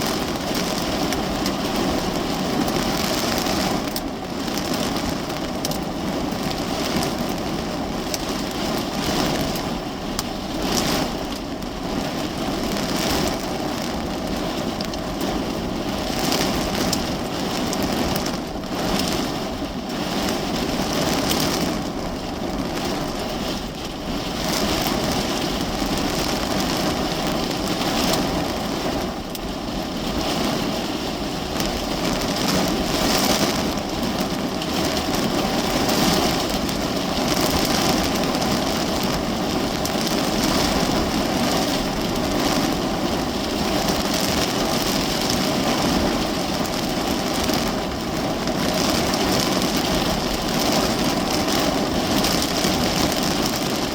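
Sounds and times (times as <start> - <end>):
heavy rain on car roof: 0.0 - 53.9.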